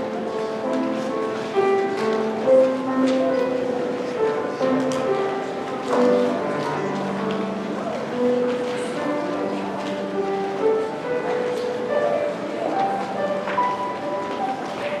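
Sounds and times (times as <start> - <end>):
slow instrumental church music: 0.0 - 15.0.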